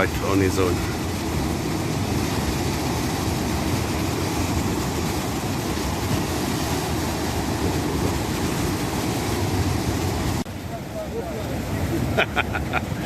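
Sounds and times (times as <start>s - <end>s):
wind buffeting microphone: 0.0s - 12.2s
surf washing: 0.0s - 13.0s.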